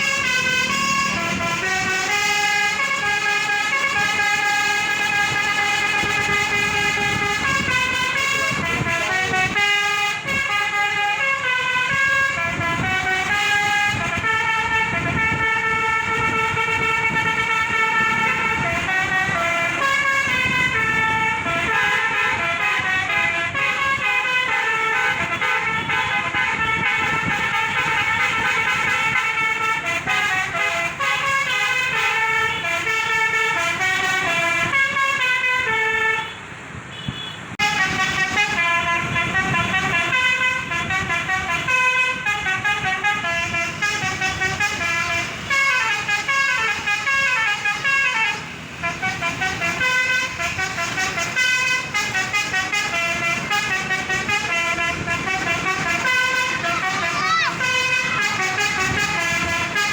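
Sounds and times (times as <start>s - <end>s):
multi-tone bus horn melody: 0.0s - 59.9s.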